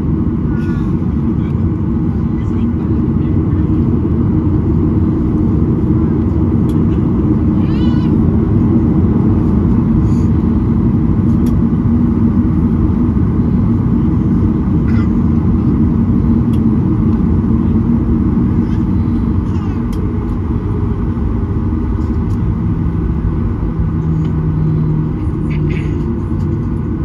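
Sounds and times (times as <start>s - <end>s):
jet engines idling low rumble: 0.0s - 27.0s
wheels rolling on taxiway: 0.1s - 27.0s.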